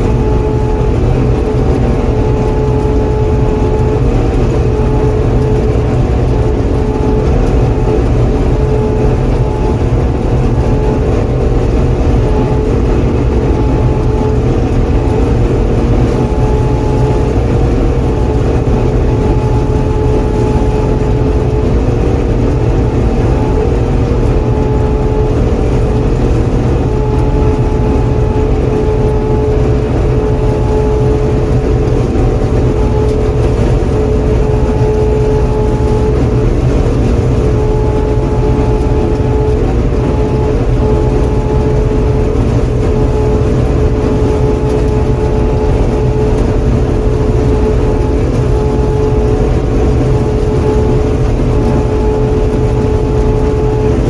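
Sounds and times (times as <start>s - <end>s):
combine engine drone: 0.0s - 54.0s
steady hum: 0.0s - 54.0s.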